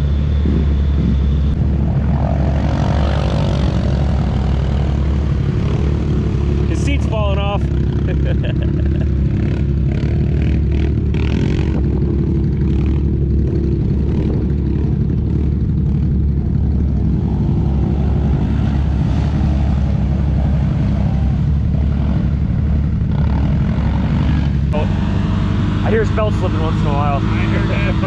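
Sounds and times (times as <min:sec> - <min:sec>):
atv engines revving: 0:00.0 - 0:28.0.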